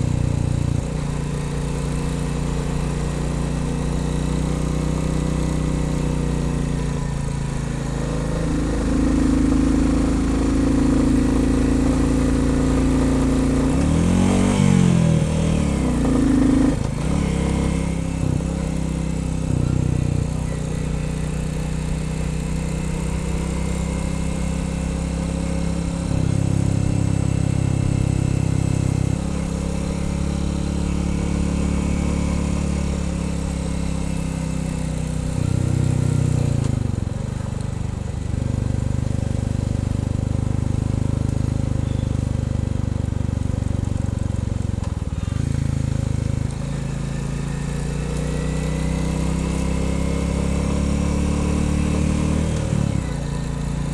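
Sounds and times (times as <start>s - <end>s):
motorcycle engine on the road: 0.0s - 53.9s.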